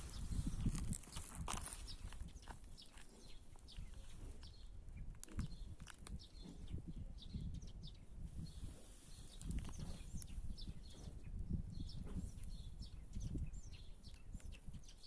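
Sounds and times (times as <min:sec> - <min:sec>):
songbirds chirping and twittering: 0:00.0 - 0:15.0.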